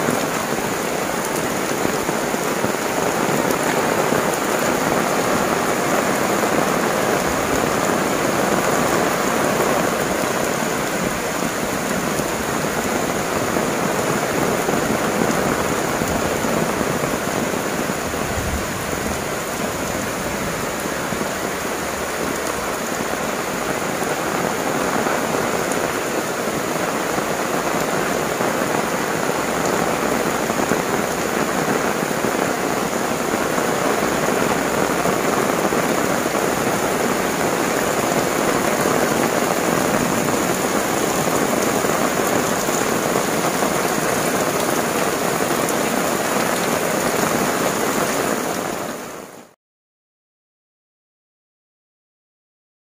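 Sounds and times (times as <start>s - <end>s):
heavy rain on roof and leaves: 0.0s - 49.6s.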